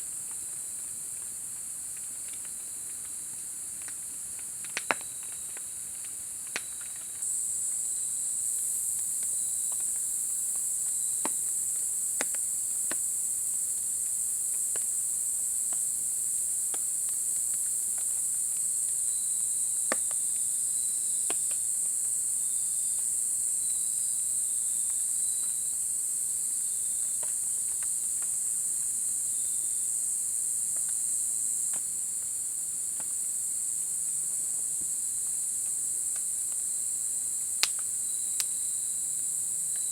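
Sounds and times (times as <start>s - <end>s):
faint insect chirps: 0.0s - 39.9s
insects chirring: 4.7s - 39.9s.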